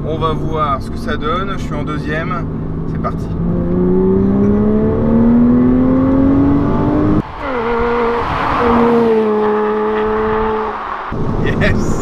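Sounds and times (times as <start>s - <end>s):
sports car engine accelerating: 0.3s - 11.9s.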